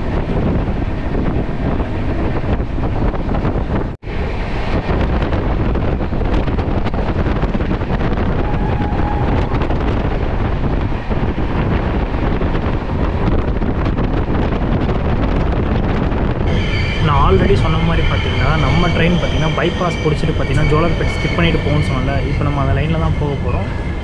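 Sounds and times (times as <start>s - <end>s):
train rumbling at speed: 0.0s - 24.0s
wind buffeting microphone: 0.0s - 24.0s.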